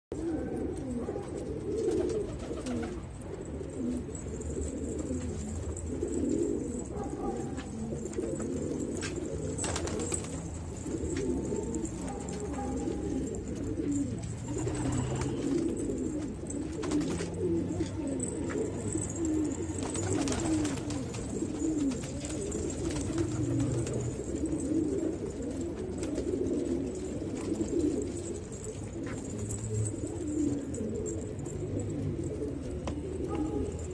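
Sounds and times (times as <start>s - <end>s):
pigeons cooing: 0.1s - 33.9s.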